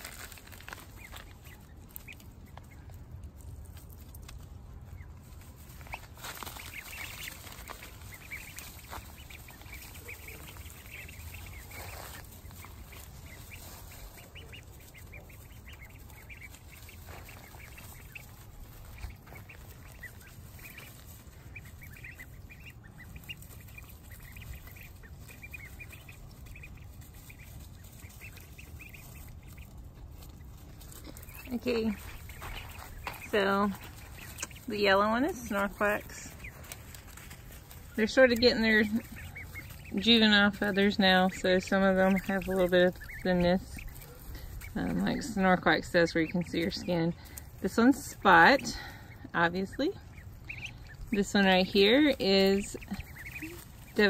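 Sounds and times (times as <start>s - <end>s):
ducklings peeping: 0.0s - 54.0s.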